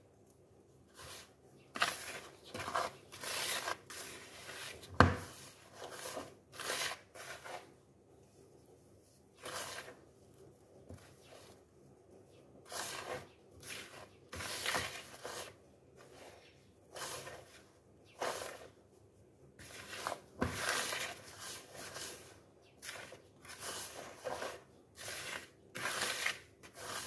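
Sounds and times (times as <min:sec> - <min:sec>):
fingers scraping flour in plastic bowl: 0:00.9 - 0:07.8, 0:09.0 - 0:27.0.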